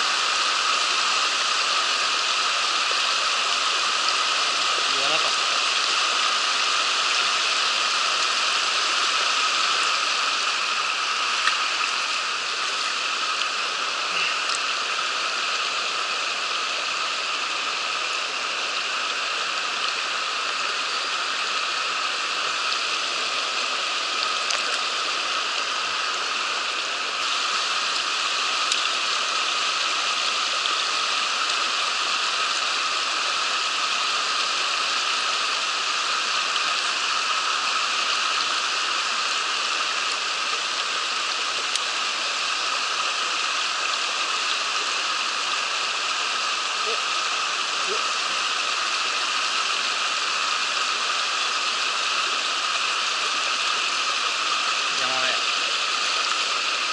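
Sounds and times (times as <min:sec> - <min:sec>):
stream water rushing: 0:00.0 - 0:56.9.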